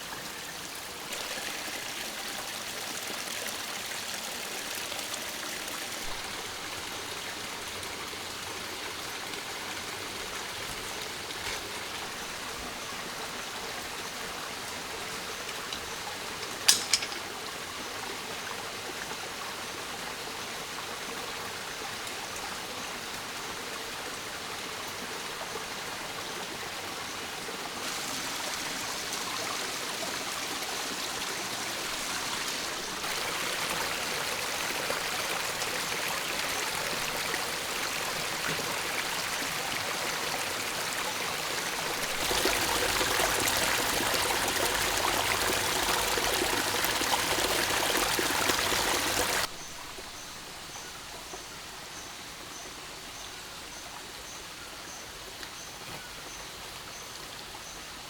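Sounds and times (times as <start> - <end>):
rain and running water: 0.0 - 58.0.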